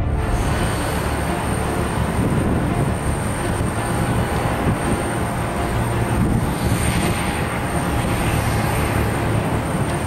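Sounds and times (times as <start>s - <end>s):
distant jet engines rumbling: 0.0s - 10.0s
jet engine high whine: 0.0s - 10.0s.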